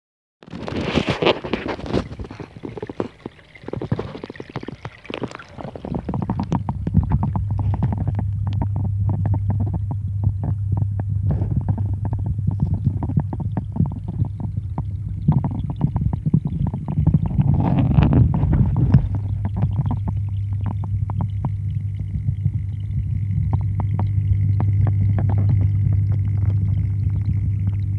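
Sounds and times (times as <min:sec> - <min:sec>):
underwater rumbling and crackling: 0:00.4 - 0:27.9
steady low hum: 0:00.7 - 0:27.9.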